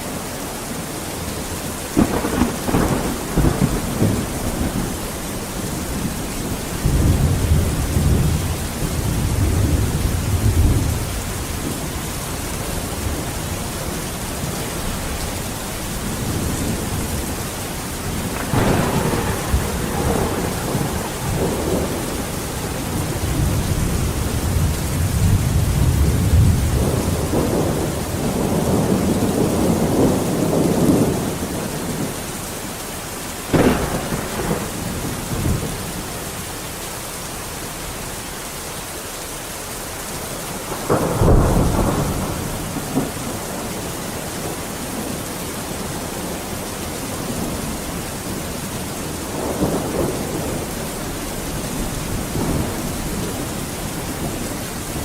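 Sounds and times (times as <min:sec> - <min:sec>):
heavy rain: 0:00.0 - 0:55.0
thunder cracking and rumbling: 0:01.9 - 0:32.2, 0:33.5 - 0:36.4, 0:40.5 - 0:45.2, 0:45.9 - 0:55.0.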